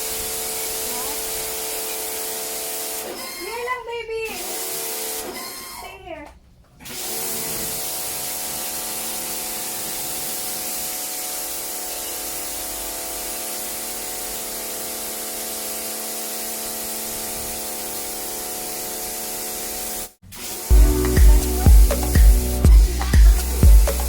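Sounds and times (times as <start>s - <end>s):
motor and pump humming: 0.0s - 3.6s, 6.8s - 24.0s
pressure washer spraying water: 0.0s - 3.7s, 4.3s - 5.7s, 6.8s - 24.0s.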